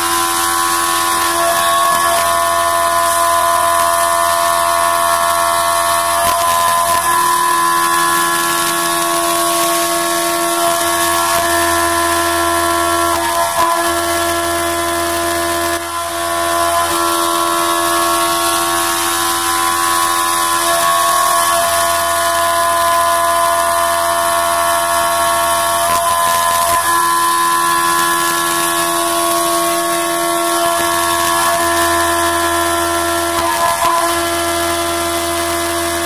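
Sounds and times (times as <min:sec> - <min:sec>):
milling machine cutter whine: 0:00.0 - 0:36.0.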